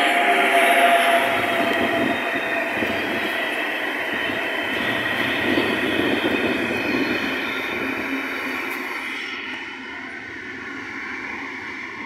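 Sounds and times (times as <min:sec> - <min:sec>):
train wagons rolling past: 0:00.0 - 0:12.0.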